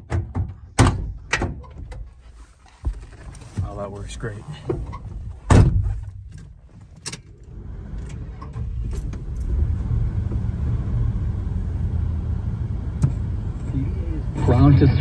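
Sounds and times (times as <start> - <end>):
car engine rumble: 0.0 - 15.0
road noise inside car: 0.0 - 15.0.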